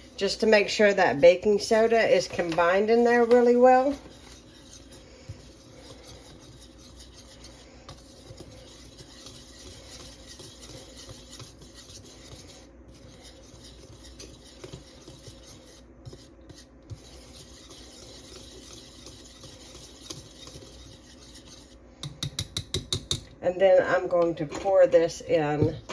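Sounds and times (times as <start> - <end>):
whisk scratching in plastic bowl: 0.0 - 21.8.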